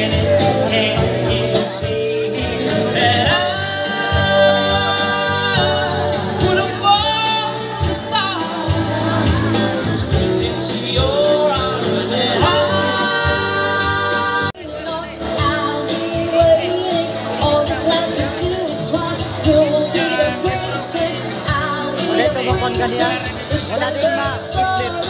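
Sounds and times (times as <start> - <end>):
live band beat: 0.0 - 25.0.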